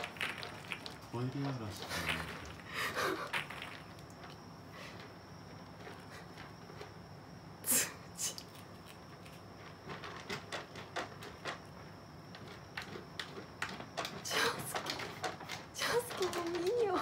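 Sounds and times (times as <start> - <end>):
cat scratching litter: 0.0 - 7.0, 8.2 - 17.0.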